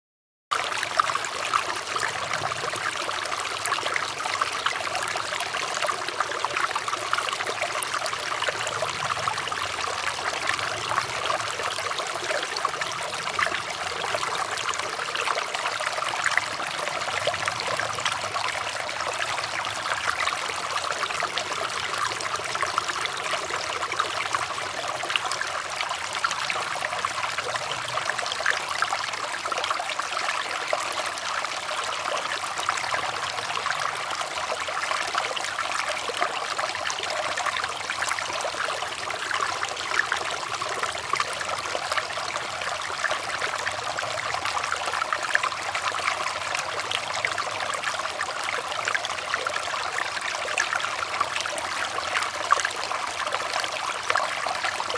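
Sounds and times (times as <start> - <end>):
water trickling and splashing: 0.6 - 54.9.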